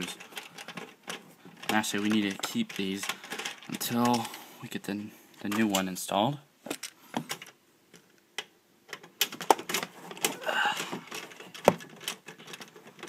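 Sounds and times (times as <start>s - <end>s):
cable plugs clicking and knocking: 0.0s - 4.4s, 5.4s - 6.0s, 6.6s - 13.0s.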